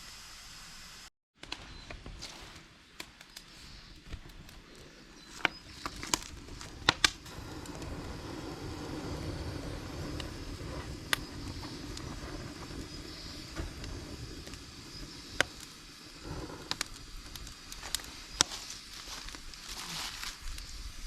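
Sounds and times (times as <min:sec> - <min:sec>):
campfire crackling: 0:01.4 - 0:21.0
campfire sharp pops: 0:02.2 - 0:20.8.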